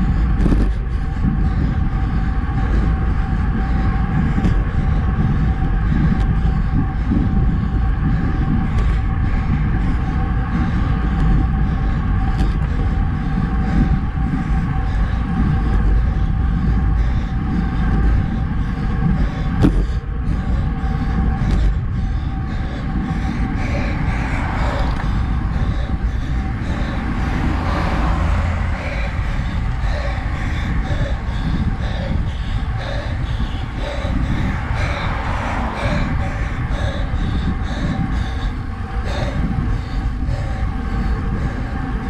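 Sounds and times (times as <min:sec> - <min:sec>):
bicycle tyre rumble: 0:00.0 - 0:42.0
faint steady hum: 0:00.0 - 0:42.0
wind on microphone: 0:00.0 - 0:42.0.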